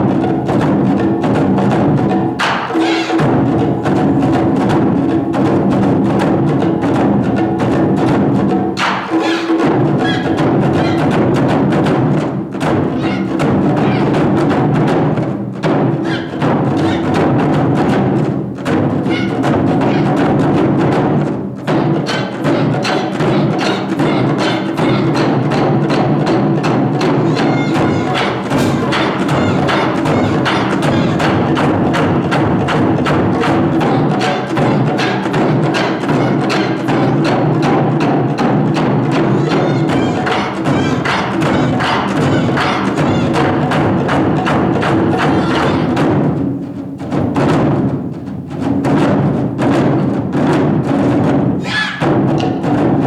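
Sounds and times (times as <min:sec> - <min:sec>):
taiko drums playing: 0:00.0 - 0:53.0.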